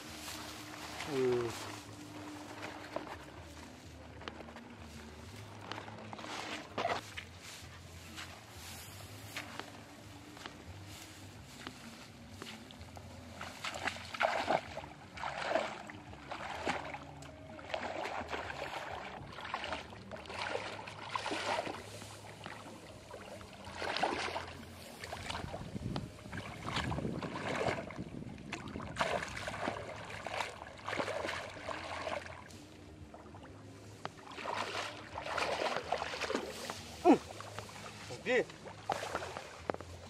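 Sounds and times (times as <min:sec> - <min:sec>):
wading splashes through water: 0:00.0 - 0:40.0.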